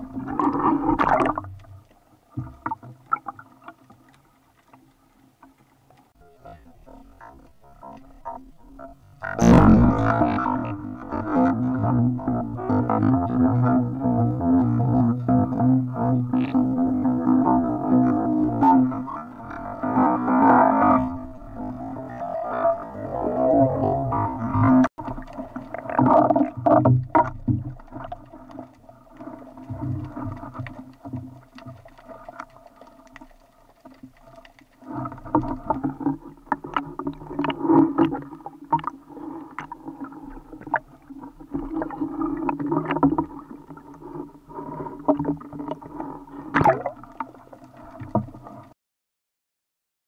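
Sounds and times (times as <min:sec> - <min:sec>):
water sloshing and splashing: 0:00.0 - 0:22.9, 0:23.9 - 0:48.7.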